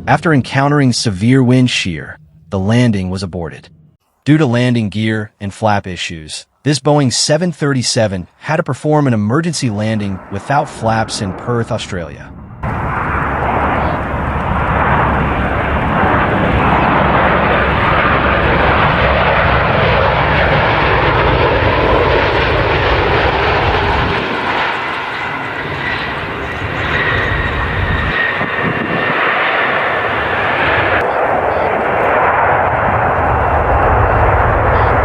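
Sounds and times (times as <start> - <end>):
jet engines roaring: 0.0 - 4.0, 8.3 - 35.0.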